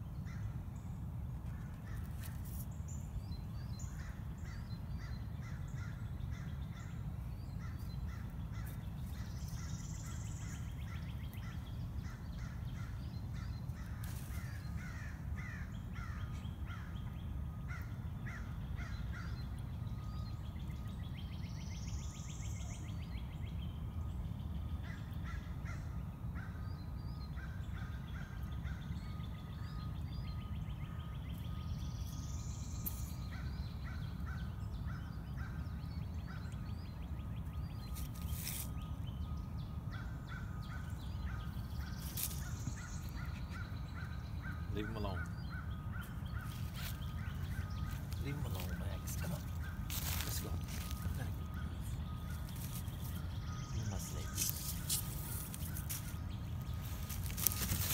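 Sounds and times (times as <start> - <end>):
birds calling: 0.0 - 57.9
steady low rumble: 0.0 - 57.9.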